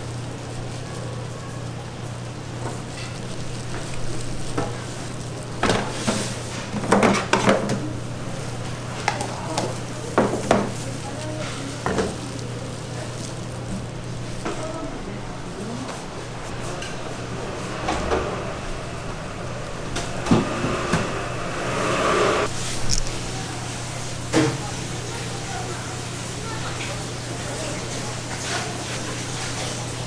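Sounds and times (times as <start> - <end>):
low hum and hiss: 0.0 - 28.2.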